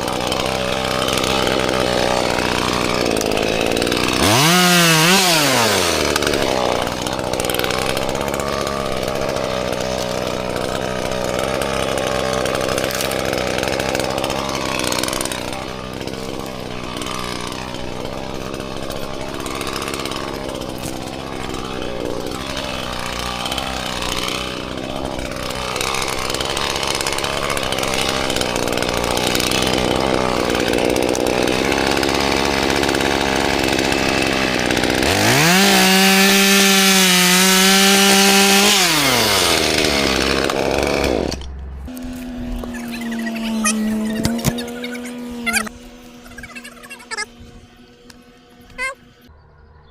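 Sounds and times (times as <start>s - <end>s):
chainsaw idling and revving: 0.0s - 49.3s.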